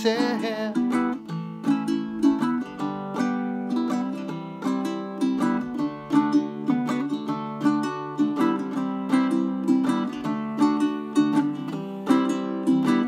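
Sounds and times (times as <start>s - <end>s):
ukulele strumming chords: 0.0s - 13.0s.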